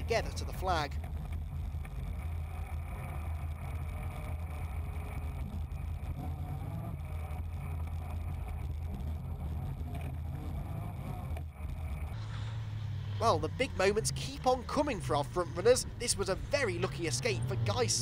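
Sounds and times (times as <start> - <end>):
rally car engine droning: 0.0 - 18.0.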